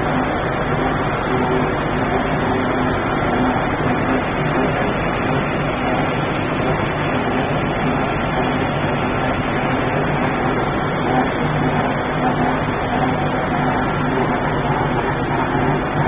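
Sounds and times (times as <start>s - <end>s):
low hum: 0.0s - 16.0s
machinery drone: 0.0s - 16.0s.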